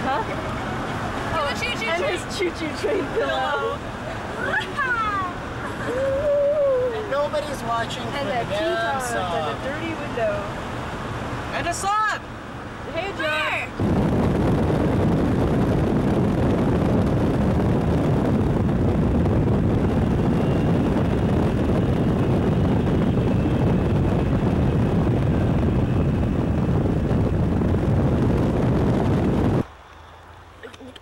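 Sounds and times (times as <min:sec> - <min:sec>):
road and wind noise: 0:00.0 - 0:31.0
vehicle rumbling from inside: 0:00.0 - 0:31.0.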